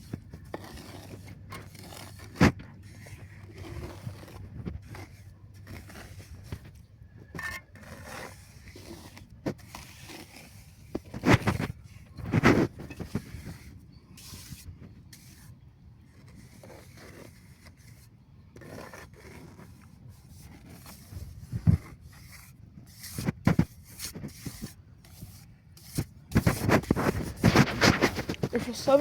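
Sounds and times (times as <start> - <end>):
trowel scraping wet mortar: 0.0 - 29.0.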